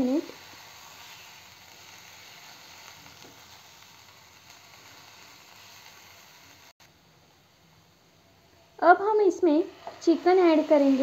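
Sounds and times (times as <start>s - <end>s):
food sizzling in oil: 0.0s - 6.8s, 8.9s - 11.0s.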